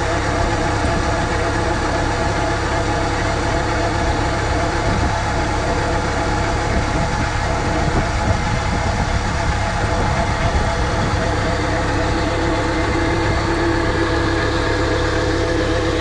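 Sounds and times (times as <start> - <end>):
tractor engine running: 0.0 - 16.0
water pump under pressure: 0.0 - 16.0.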